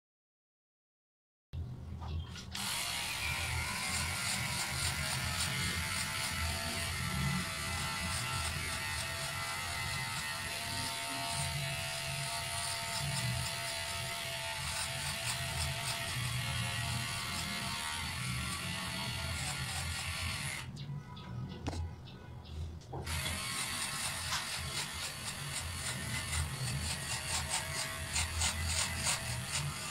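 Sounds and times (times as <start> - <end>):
electric hair clipper buzzing: 2.5 - 20.7, 23.0 - 29.9.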